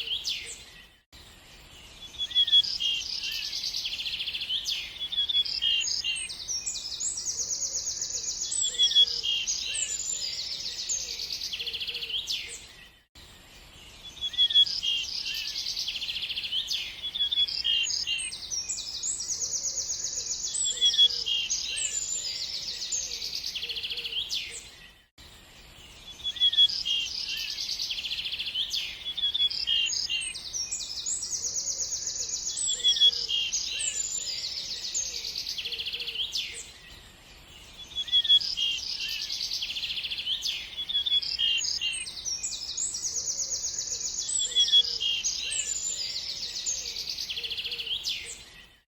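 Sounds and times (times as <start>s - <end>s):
birds chirping and trilling: 0.0s - 48.9s.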